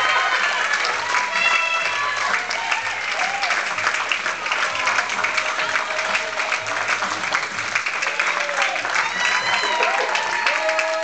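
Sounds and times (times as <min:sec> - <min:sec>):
audience clapping: 0:00.0 - 0:11.0
music playing: 0:00.0 - 0:11.0.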